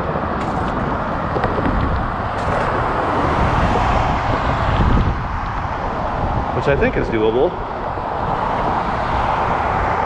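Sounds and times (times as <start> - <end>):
tyre and road noise: 0.0 - 10.0
wind on microphone: 0.0 - 10.0.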